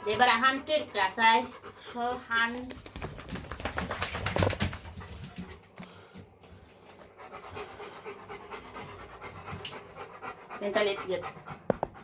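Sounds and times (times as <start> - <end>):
big dog panting: 0.0 - 12.0.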